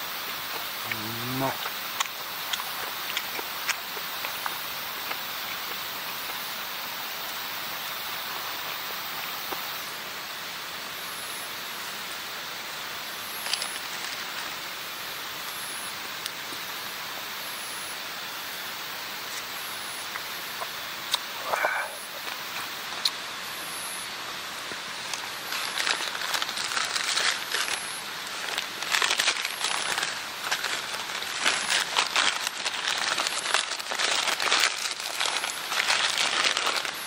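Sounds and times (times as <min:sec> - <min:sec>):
rain-like hiss: 0:00.0 - 0:37.0.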